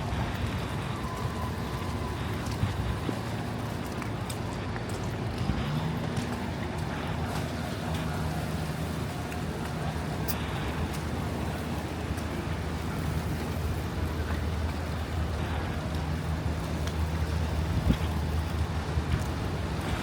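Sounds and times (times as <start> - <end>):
city street traffic hiss: 0.0 - 20.0
wind buffeting microphone: 0.0 - 20.0.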